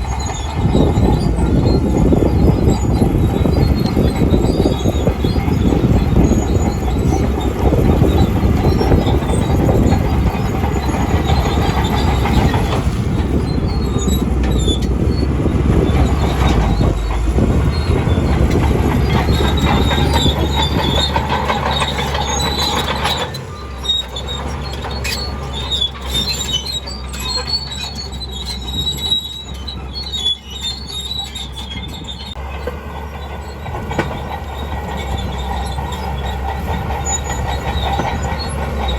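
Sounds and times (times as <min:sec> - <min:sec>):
bulldozer engine rumbling: 0:00.0 - 0:38.9
steel tracks squealing and clanking: 0:00.0 - 0:38.9.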